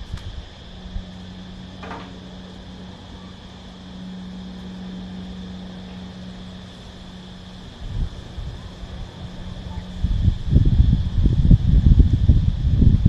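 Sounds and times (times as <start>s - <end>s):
cicadas buzzing: 0.0s - 13.0s
low motor drone: 0.0s - 13.0s.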